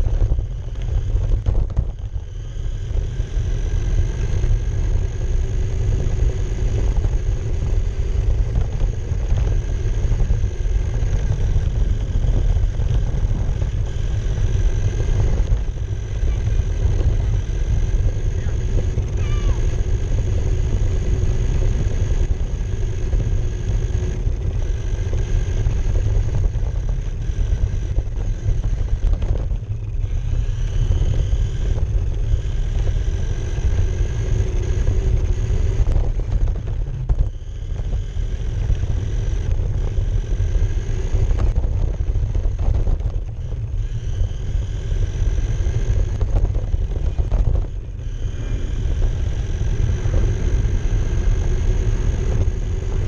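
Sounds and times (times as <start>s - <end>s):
rc car rolling over asphalt: 0.0s - 53.0s
steady whine: 0.0s - 53.0s.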